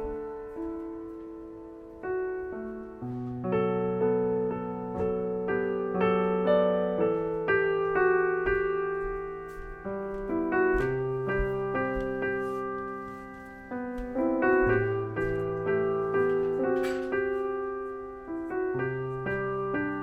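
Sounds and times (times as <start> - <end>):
slow gentle piano melody: 0.0 - 20.0.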